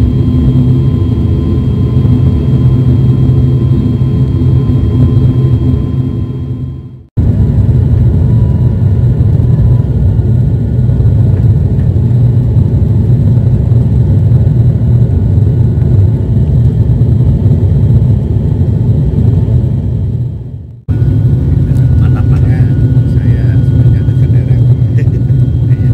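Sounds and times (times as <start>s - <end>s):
airliner engines and propellers drone: 0.0s - 25.9s.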